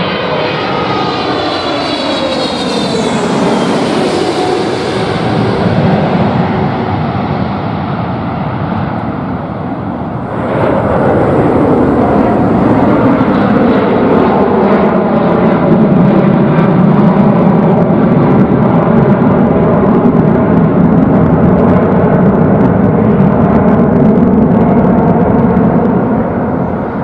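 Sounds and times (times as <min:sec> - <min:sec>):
jet engines roaring: 0:00.0 - 0:27.0
landing jet passing: 0:00.0 - 0:27.0.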